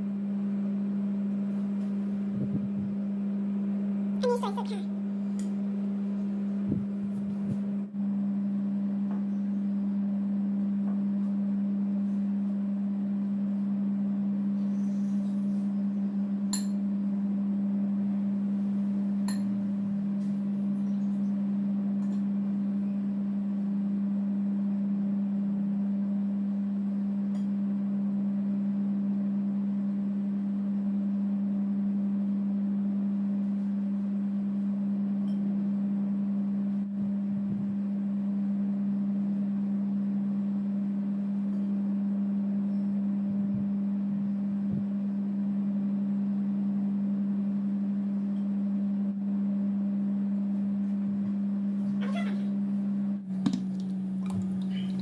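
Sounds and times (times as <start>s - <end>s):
steady low humming tone: 0.0s - 55.0s.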